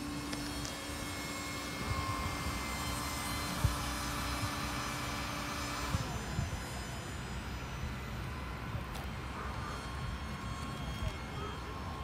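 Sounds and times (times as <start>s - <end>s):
model jet turbine engine running: 0.0s - 12.0s
wind rumbling on microphone: 0.0s - 12.0s.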